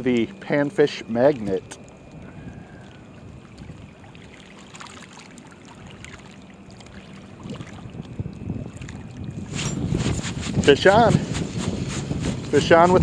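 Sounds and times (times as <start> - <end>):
small waves lapping: 0.3 - 12.7.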